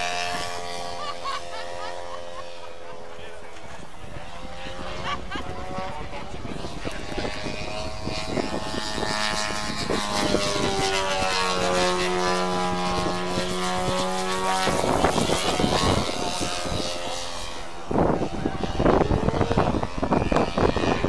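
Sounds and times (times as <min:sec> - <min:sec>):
model plane engine and propeller: 0:00.0 - 0:21.0.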